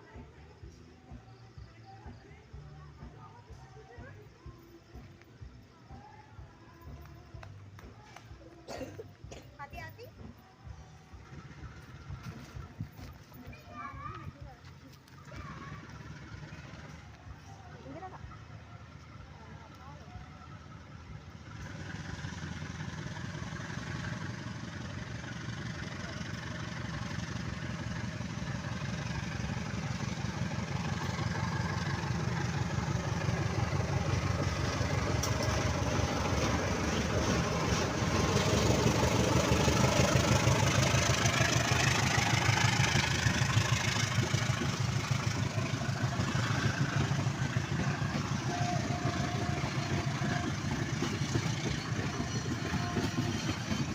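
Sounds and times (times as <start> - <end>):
diesel train engine throbbing: 0.0 - 53.9.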